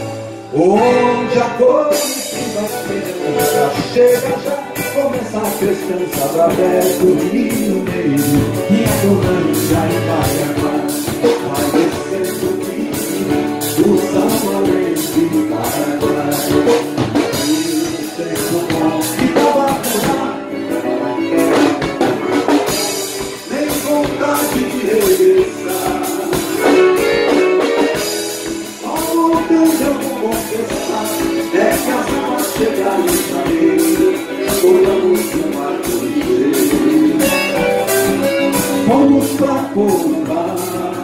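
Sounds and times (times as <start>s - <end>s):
live band music: 0.0s - 41.0s
steady drum beat: 1.9s - 41.0s.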